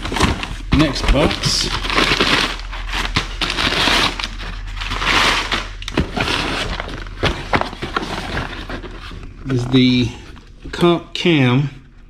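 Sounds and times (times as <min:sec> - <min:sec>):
packing paper rustling and crinkling: 0:00.0 - 0:10.9.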